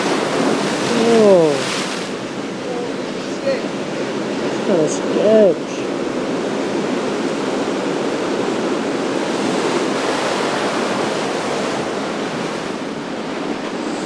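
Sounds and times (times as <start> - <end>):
ocean surf washing over rocks: 0.0 - 14.0.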